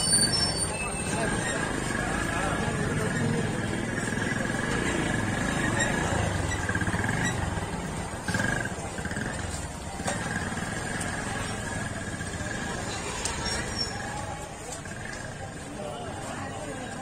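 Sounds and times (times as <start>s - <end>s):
crowd noise: 0.0s - 17.0s
motorcycle engines running: 1.1s - 17.0s.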